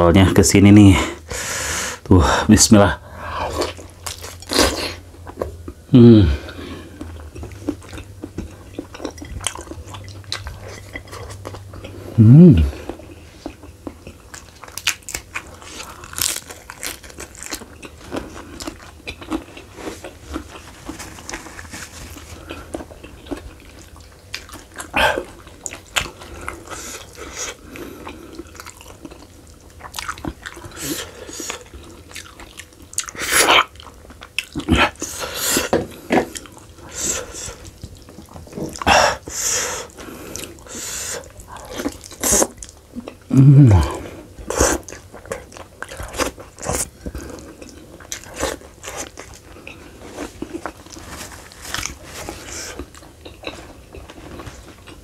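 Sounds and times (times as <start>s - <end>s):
man chewing and crunching food: 3.0s - 55.0s.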